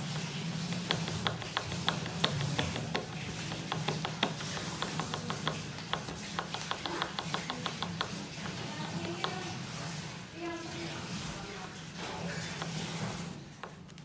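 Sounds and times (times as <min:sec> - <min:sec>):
paper towel rubbing and crinkling: 0:00.0 - 0:14.0.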